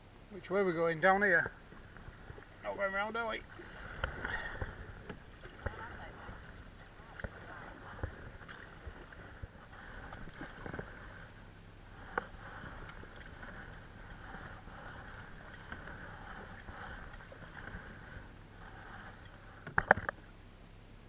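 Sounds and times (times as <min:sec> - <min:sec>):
canoe paddle swishing water: 0:00.9 - 0:20.4.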